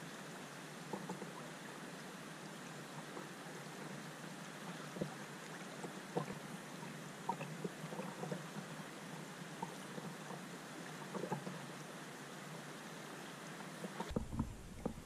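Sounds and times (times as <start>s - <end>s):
river water rippling around rocks: 0.0s - 15.0s
water splashes and gurgles: 0.0s - 15.0s.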